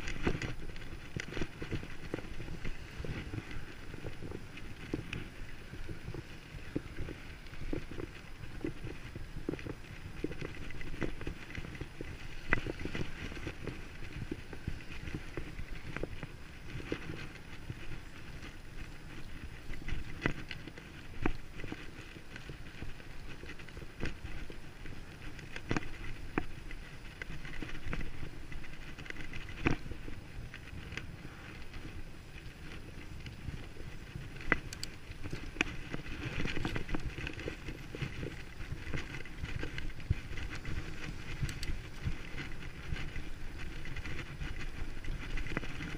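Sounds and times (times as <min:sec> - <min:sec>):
bicycle tyre and drivetrain noise: 0:00.0 - 0:45.9.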